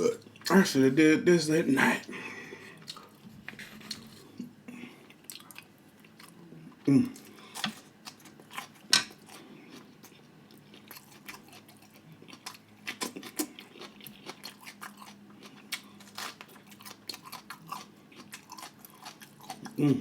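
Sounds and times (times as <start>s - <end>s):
person chewing food: 2.0s - 20.0s.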